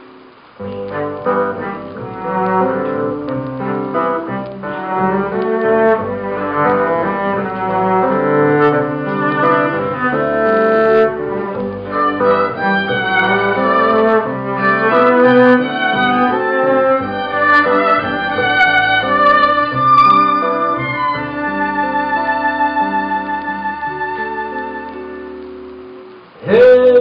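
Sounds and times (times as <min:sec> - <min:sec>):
violin melody: 0:00.1 - 0:26.1
cello: 0:00.7 - 0:25.5.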